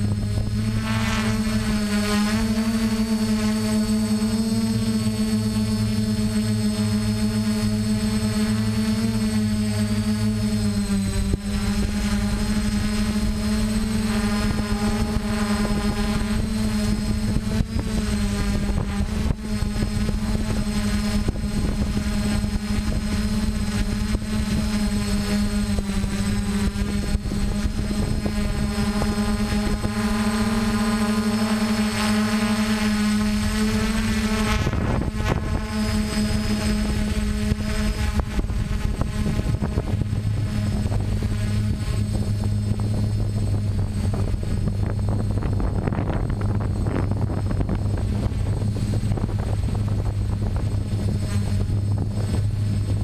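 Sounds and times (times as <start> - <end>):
drone motors whining: 0.0 - 53.0.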